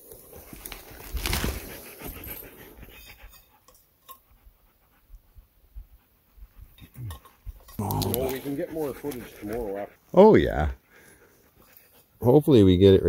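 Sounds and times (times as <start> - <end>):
faint rustles: 0.0 - 3.9, 5.0 - 12.3
dog panting: 0.3 - 12.4.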